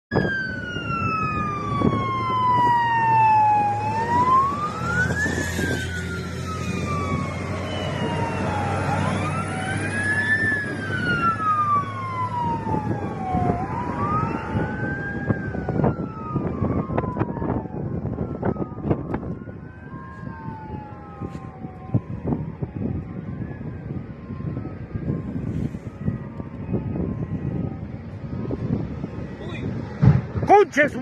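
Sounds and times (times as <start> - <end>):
fire truck sirens wailing: 0.1 - 31.0.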